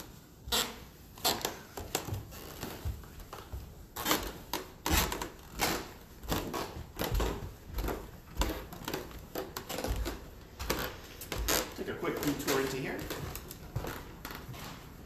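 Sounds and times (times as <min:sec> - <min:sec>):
footsteps on carpeted stairs: 0:00.0 - 0:15.0.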